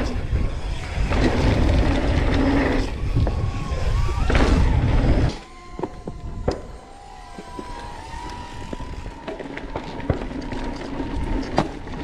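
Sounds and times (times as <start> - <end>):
tyres rumbling on dirt: 0.0 - 6.2, 7.4 - 12.0
faint whine: 0.0 - 12.0
wind rushing over microphone: 0.0 - 12.0.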